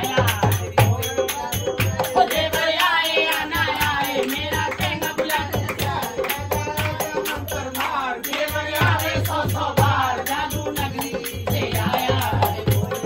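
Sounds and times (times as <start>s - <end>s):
hand drum beat: 0.0s - 13.0s
jingling percussion: 0.0s - 13.0s.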